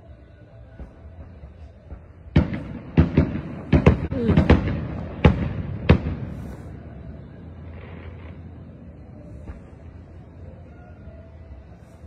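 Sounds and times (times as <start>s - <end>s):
fireworks exploding: 0.8s - 10.6s.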